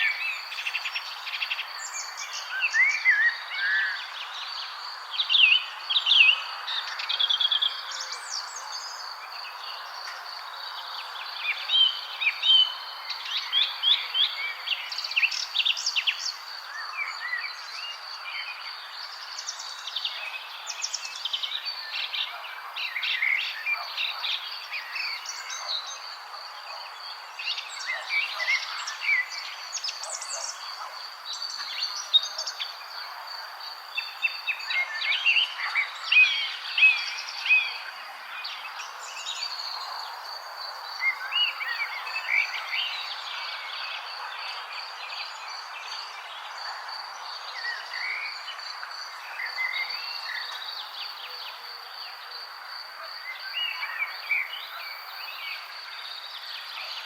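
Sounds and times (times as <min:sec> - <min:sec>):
outdoor ambience hiss: 0:00.0 - 0:57.0
songbirds chirping and singing: 0:00.0 - 0:57.0.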